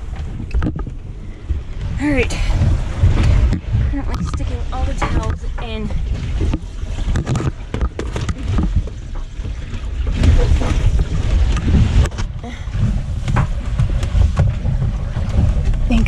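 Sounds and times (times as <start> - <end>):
low rumble: 0.0 - 16.0
water sloshing: 0.0 - 16.0.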